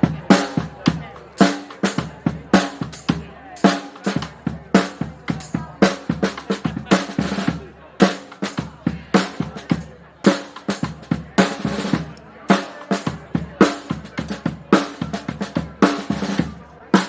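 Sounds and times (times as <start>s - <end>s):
brass band drums playing: 0.0s - 17.0s.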